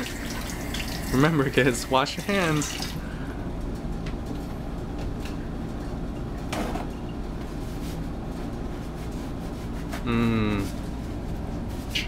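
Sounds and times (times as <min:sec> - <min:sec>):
steady low hum: 0:00.3 - 0:12.0.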